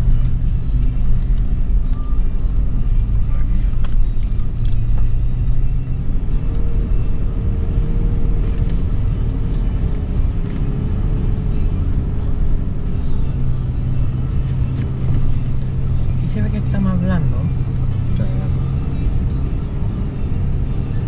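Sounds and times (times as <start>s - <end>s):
engine and tyres rumbling on sand: 0.0s - 21.0s.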